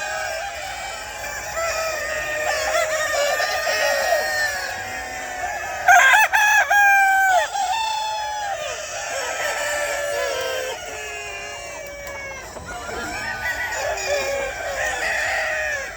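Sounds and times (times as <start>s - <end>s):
chickens clucking: 0.0s - 15.9s
rooster crowing: 0.0s - 15.9s.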